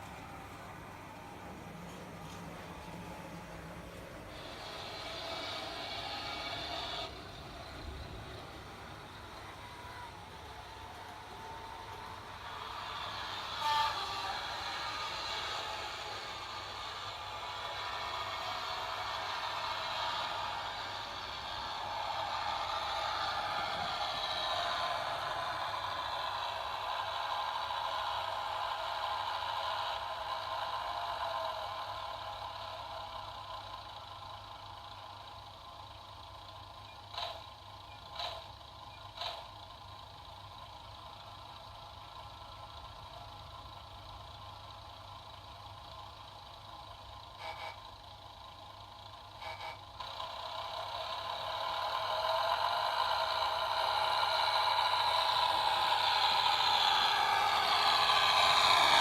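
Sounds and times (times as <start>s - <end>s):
sampled diesel engine sound: 0.0s - 59.0s.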